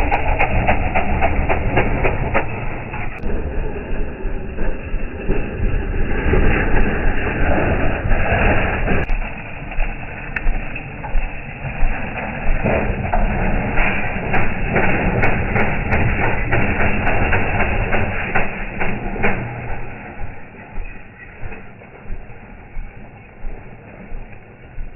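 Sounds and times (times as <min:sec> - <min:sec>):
small engine rough rumble: 0:00.0 - 0:24.9.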